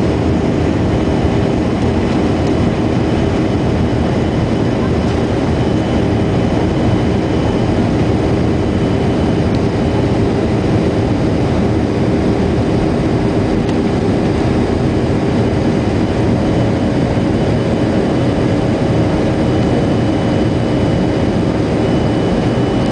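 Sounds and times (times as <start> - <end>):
jet engines and rushing air: 0.0 - 22.9.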